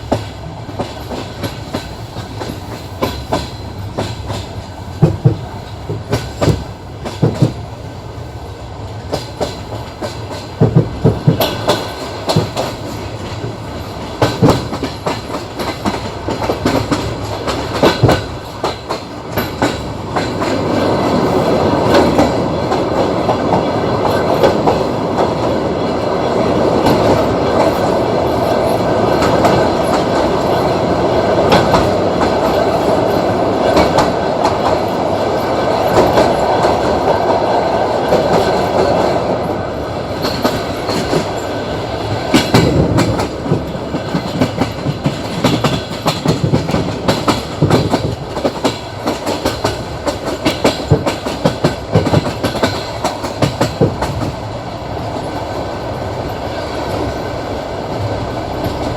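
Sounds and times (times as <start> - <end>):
wheels clacking on rail joints: 0.0 - 7.7, 9.0 - 57.4
train wheels rumbling on rail: 0.0 - 58.9.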